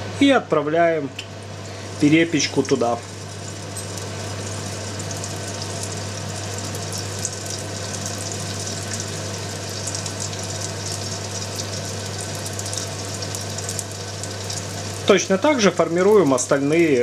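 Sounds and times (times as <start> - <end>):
oil sizzling and crackling: 1.2 - 17.0.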